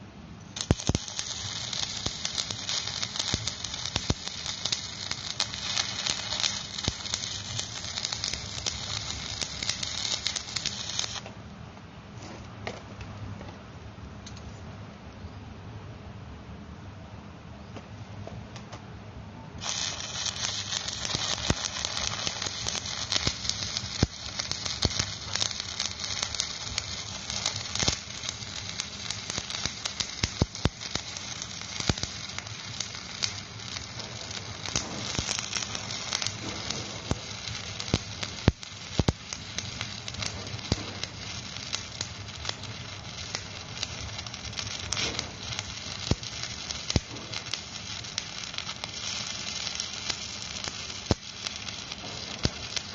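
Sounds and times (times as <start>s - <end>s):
welding arc crackling and popping: 0.6s - 11.3s, 19.6s - 52.9s.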